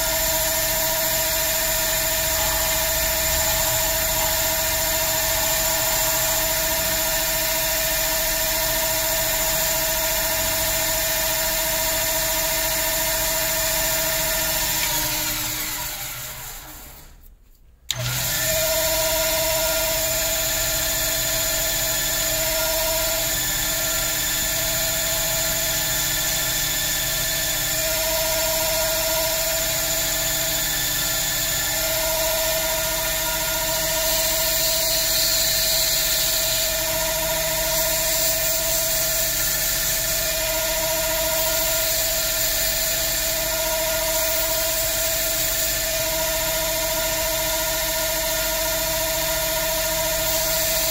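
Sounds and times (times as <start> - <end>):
electric lathe motor whining: 0.0 - 17.1, 17.9 - 50.9.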